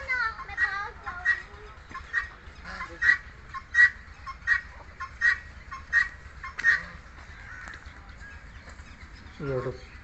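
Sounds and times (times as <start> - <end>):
bird giving harsh calls: 0.1 - 10.0.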